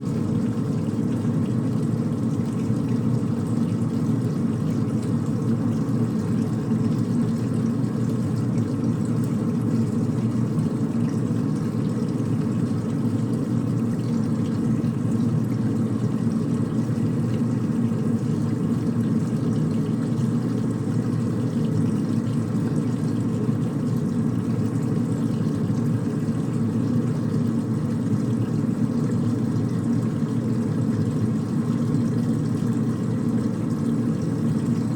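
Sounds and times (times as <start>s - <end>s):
washing machine spinning: 0.0s - 34.9s
water whirring: 0.0s - 34.9s.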